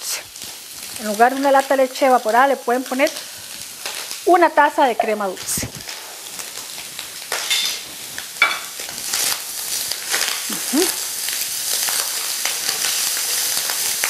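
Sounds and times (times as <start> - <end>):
food sizzling in a skillet: 0.0 - 14.0.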